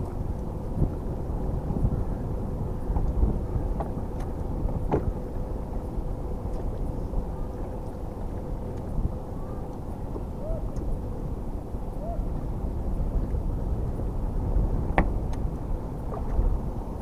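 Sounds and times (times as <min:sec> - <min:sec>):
faint constant hum: 0:00.0 - 0:17.0
wind buffeting microphone: 0:00.0 - 0:17.0.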